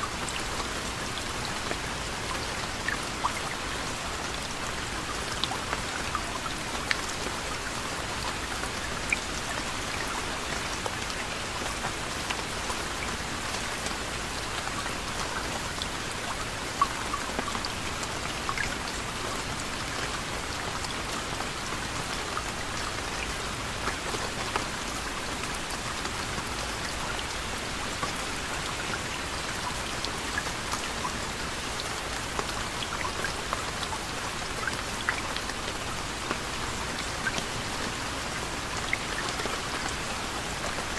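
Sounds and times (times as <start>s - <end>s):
raindrops pattering: 0.0s - 40.9s
soft rain hiss: 0.0s - 40.9s.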